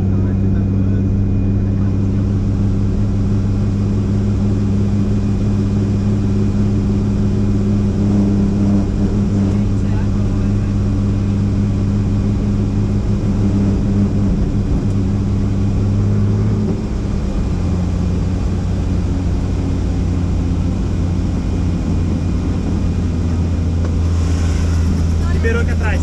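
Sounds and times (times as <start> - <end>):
helicopter drone: 0.0 - 26.0.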